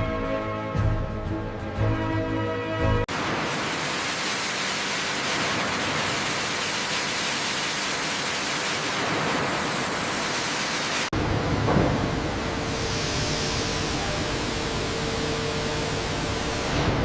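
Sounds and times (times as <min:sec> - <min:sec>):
steady hissing noise: 0:03.1 - 0:17.0.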